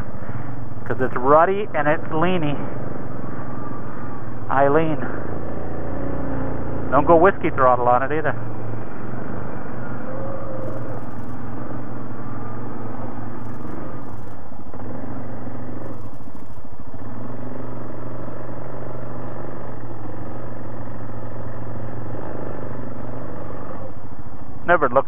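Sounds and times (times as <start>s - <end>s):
atv engine running under load: 0.0s - 25.0s.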